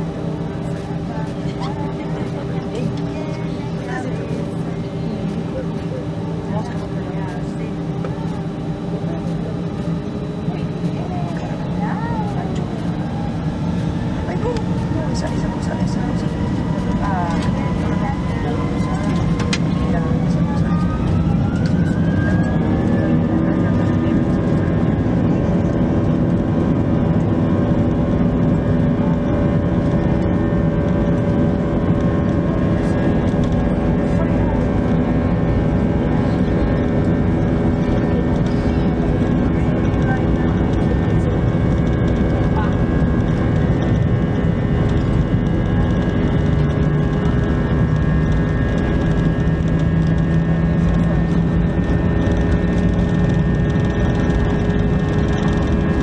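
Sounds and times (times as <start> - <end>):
engine whining tones: 0.0 - 56.0
jet engines rumbling in cabin: 0.0 - 56.0
low hum: 0.0 - 56.0.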